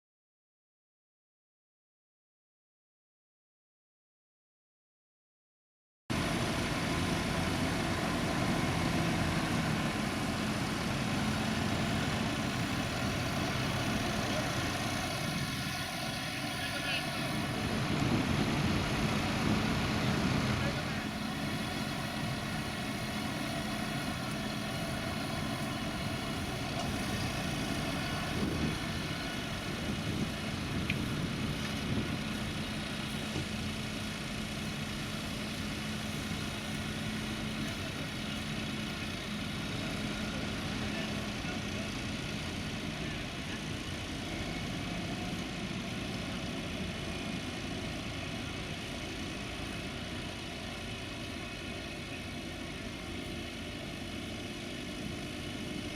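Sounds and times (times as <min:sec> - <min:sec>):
diesel tractor engine running: 0:06.1 - 0:55.9.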